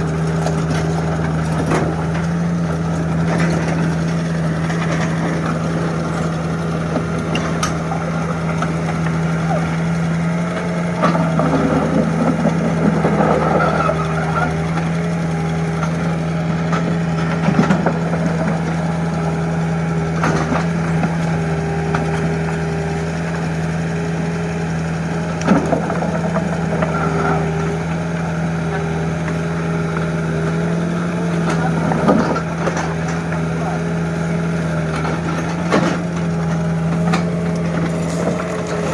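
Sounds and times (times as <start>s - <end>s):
excavator engine idling: 0.0s - 38.9s.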